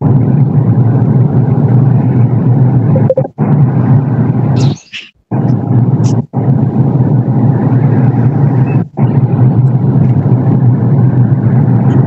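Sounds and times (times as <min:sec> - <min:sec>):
loud steady rumbling: 0:00.0 - 0:12.0.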